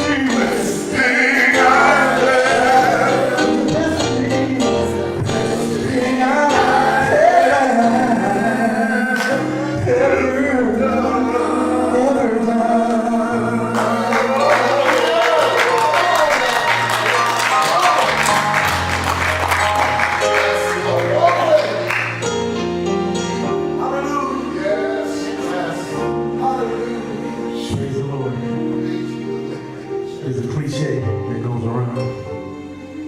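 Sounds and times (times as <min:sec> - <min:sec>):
gospel singing: 0:00.0 - 0:33.0.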